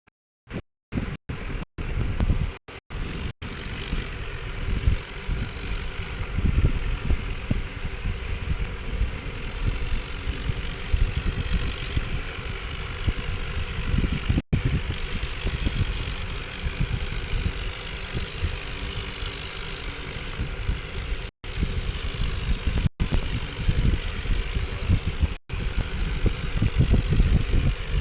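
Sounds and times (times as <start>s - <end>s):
tractor engine running: 1.0s - 28.0s
wind buffeting microphone: 1.0s - 28.0s.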